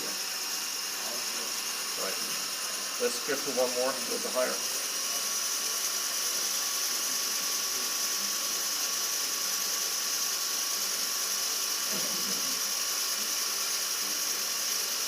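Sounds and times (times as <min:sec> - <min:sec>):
helicopter rotor whirring: 0:00.0 - 0:15.0.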